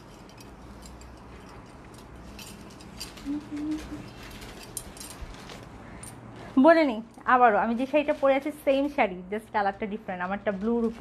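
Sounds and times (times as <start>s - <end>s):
fabric rustling and crackling: 0.0s - 9.0s.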